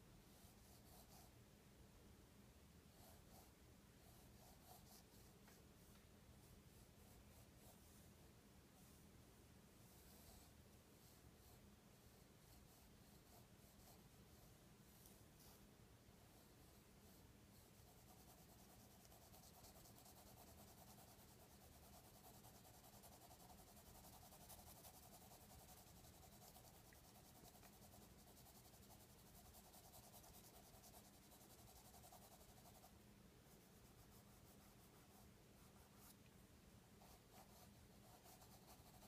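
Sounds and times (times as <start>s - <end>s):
low steady hum: 0.0s - 39.0s
pencil scratching on paper: 0.3s - 1.3s, 2.9s - 5.9s, 6.7s - 8.1s, 9.9s - 15.6s, 16.2s - 32.9s, 33.5s - 36.2s, 37.0s - 39.0s.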